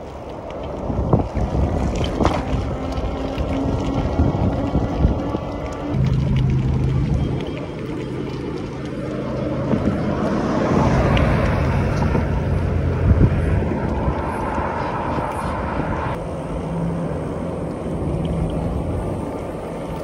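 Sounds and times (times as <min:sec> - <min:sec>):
road and passing traffic: 0:00.0 - 0:20.0
wind on microphone: 0:00.0 - 0:20.0.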